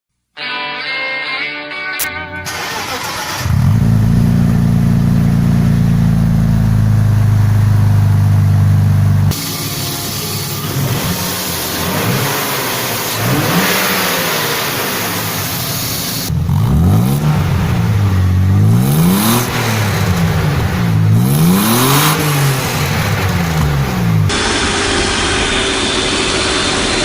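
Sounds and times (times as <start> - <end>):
car engine revving: 2.4 - 27.0.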